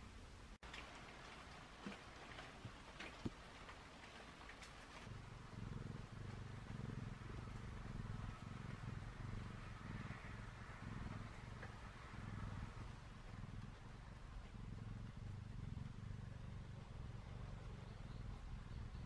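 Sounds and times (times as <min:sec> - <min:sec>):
cat purring: 0:00.8 - 0:19.0.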